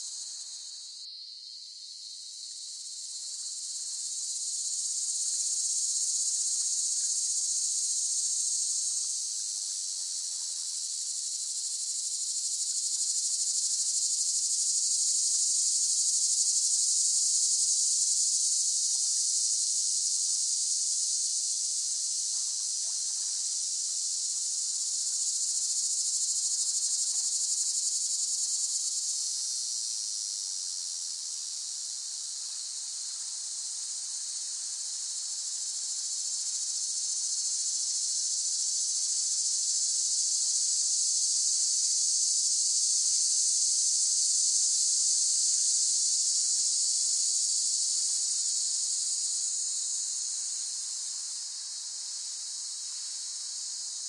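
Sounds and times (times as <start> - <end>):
cicadas buzzing: 0.0 - 21.5, 22.1 - 54.0.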